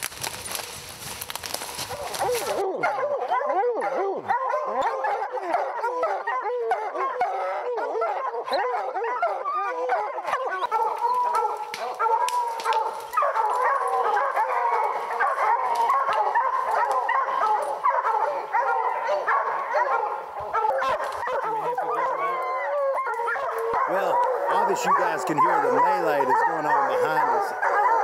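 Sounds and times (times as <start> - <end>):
hounds baying: 0.1 - 28.0.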